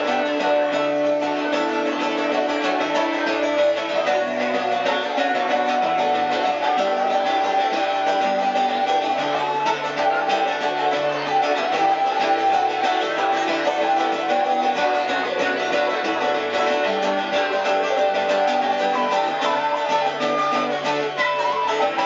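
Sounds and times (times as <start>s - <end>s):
acoustic guitar strumming: 0.0s - 22.0s
held melody notes: 0.0s - 22.0s.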